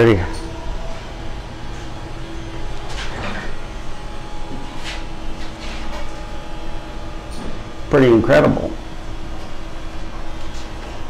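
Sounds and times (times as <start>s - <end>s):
ventilation fans humming: 0.0s - 11.0s.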